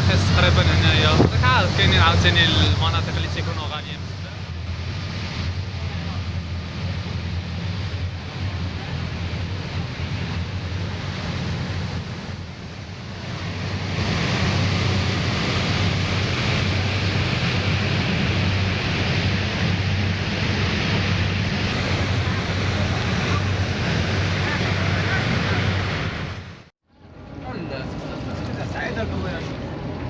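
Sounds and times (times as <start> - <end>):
ferry engine humming: 0.0 - 30.0
rushing water: 0.0 - 30.0
wind on microphone: 0.0 - 30.0.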